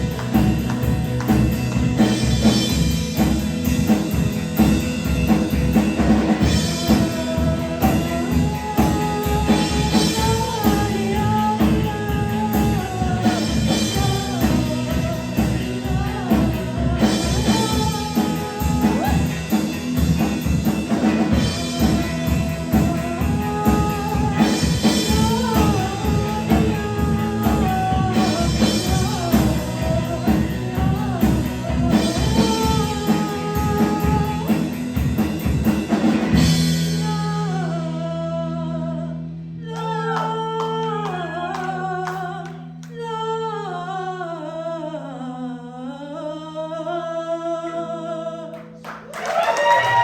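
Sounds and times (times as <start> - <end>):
person singing: 0.0 - 35.4, 36.0 - 50.0
drums: 0.0 - 39.1, 39.7 - 43.0, 48.7 - 50.0
electric guitar: 0.0 - 43.6
bass guitar: 0.0 - 50.0.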